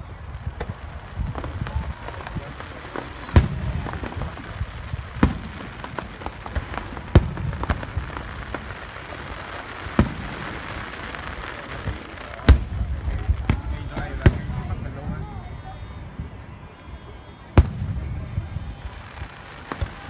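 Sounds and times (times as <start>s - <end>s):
fireworks booming: 0.0s - 20.0s
fireworks crackles: 0.0s - 20.0s.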